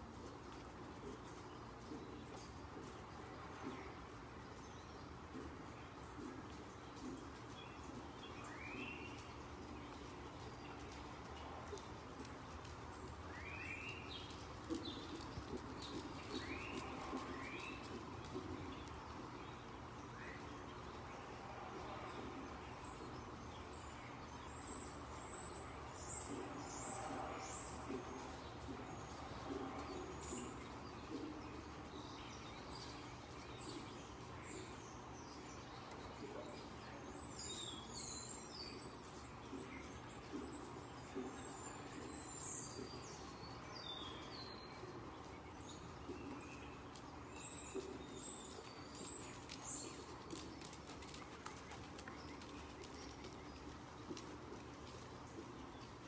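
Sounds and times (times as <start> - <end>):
small birds chirping: 0.0 - 56.0
steady low hum: 0.0 - 56.0.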